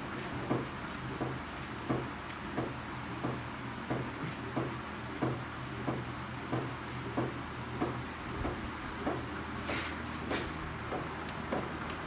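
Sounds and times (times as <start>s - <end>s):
steady low hum: 0.0s - 12.0s
wind turbine knocking: 0.4s - 9.3s, 10.8s - 12.0s.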